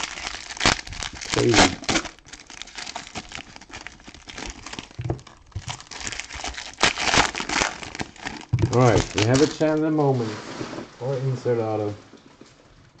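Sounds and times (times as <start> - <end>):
wrappers crinkling and tearing: 0.0 - 12.8.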